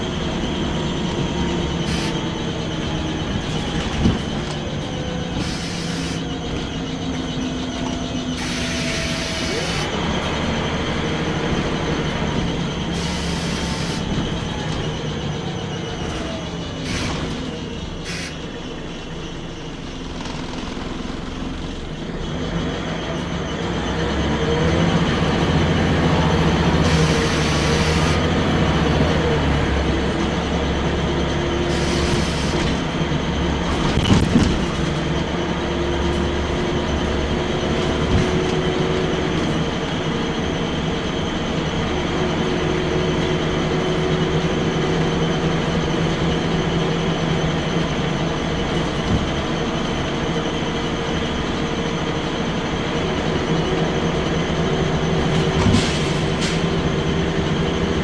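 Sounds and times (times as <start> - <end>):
bus engine running: 0.0 - 58.0
road noise: 0.0 - 58.0.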